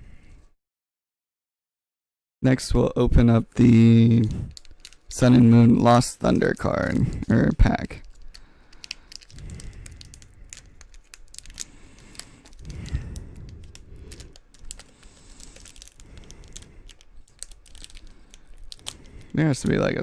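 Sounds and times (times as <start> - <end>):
foil wrapper crinkling and tearing: 3.6 - 20.0.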